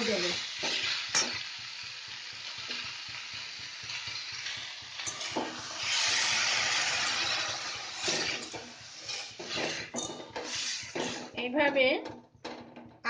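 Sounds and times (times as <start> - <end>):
food sizzling in wok: 0.0 - 11.7
water hitting hot oil: 0.0 - 13.0.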